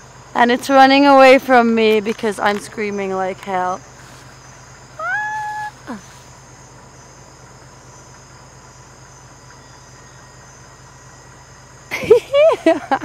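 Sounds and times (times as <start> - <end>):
insect drone: 0.0 - 13.0
low even hum: 0.0 - 13.0.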